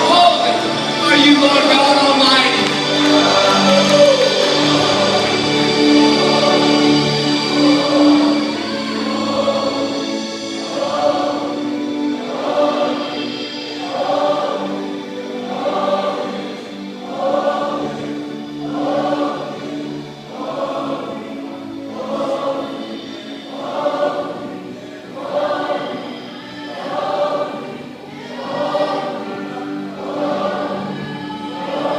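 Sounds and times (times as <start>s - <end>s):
choir singing: 0.0s - 31.9s.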